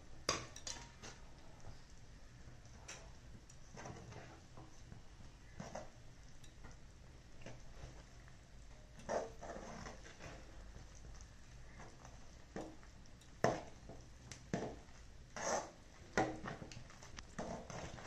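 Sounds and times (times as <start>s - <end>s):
ladle stirring thick dough: 0.0s - 18.0s.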